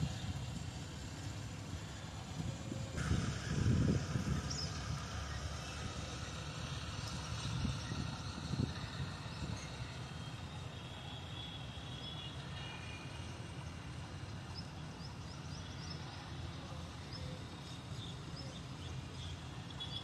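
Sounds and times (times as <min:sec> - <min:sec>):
boat engine droning: 0:00.0 - 0:17.9.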